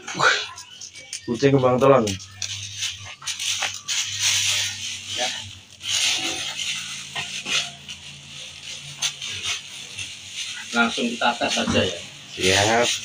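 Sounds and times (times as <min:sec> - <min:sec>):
plastic bag crinkling: 0:00.6 - 0:13.0.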